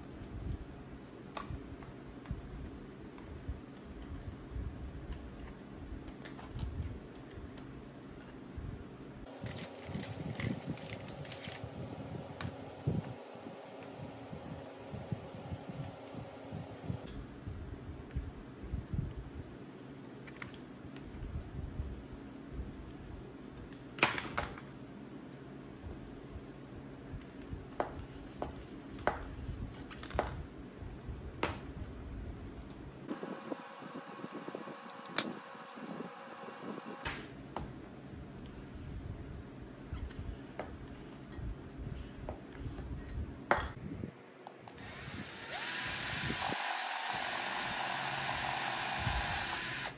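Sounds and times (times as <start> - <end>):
low steady hum: 0.0 - 47.7.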